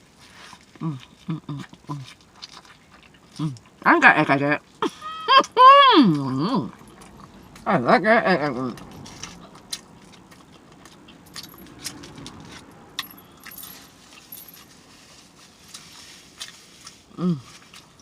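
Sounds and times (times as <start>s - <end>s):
close chewing: 0.0s - 3.9s, 5.4s - 7.9s, 8.5s - 18.0s.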